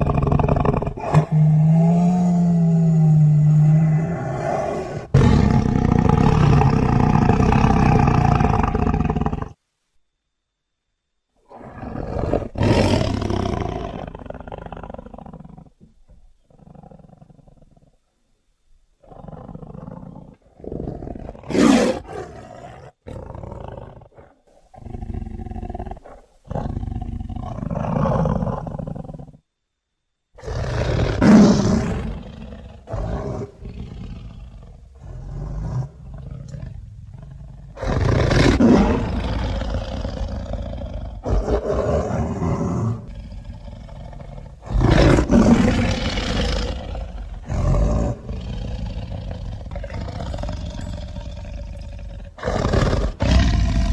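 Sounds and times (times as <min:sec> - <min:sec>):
big cat roars and growls: 0:00.0 - 0:09.6, 0:11.5 - 0:18.0, 0:19.0 - 0:29.4, 0:30.4 - 0:53.9.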